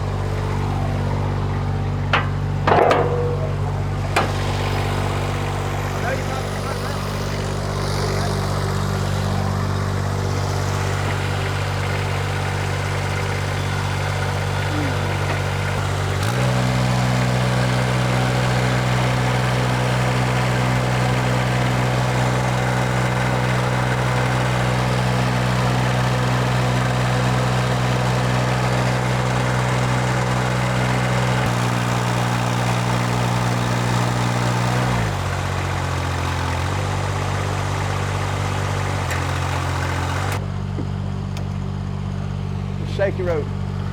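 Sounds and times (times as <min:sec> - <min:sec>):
lift engine running: 0:00.0 - 0:43.9.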